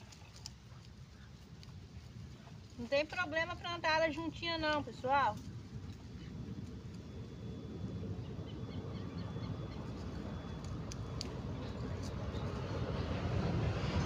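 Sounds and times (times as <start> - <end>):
vehicle rumble approaching: 0.0 - 14.0.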